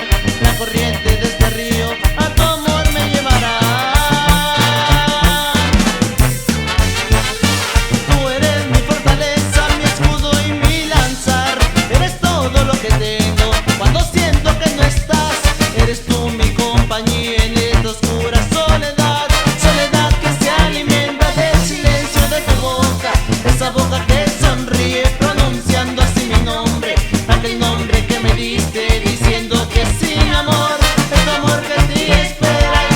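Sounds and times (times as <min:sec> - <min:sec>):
brass band playing: 0:00.0 - 0:32.9.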